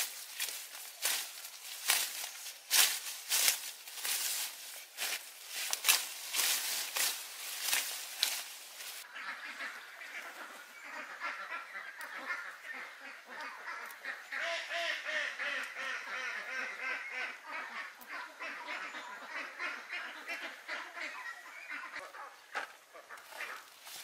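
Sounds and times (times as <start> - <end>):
farmyard birds calling: 0.0 - 24.0.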